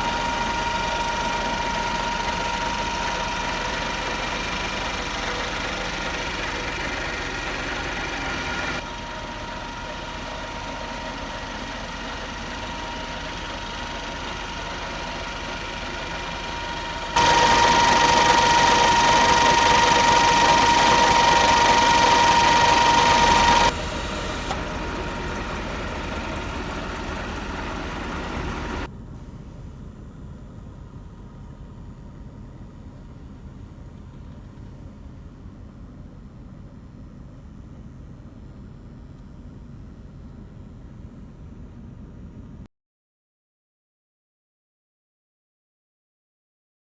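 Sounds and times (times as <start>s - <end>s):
diesel engine idling: 0.0s - 42.7s.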